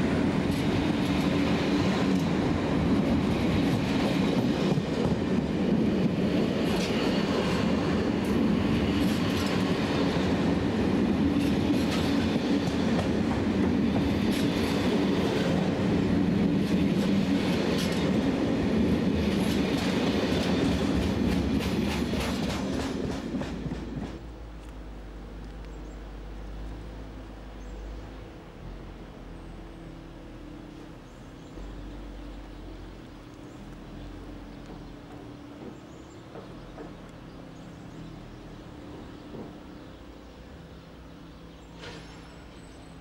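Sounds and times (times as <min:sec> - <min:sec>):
freight train rolling past: 0:00.0 - 0:43.0.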